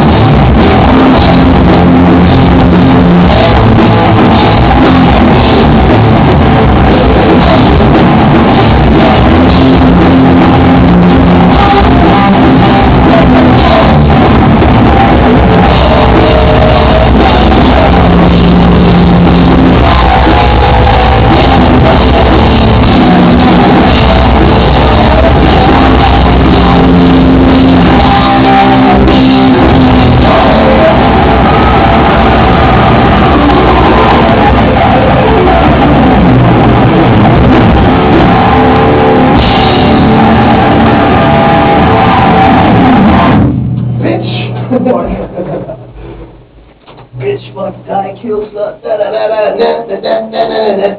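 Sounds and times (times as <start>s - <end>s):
drum kit playing: 0.0s - 48.0s
electric guitar: 0.0s - 49.4s.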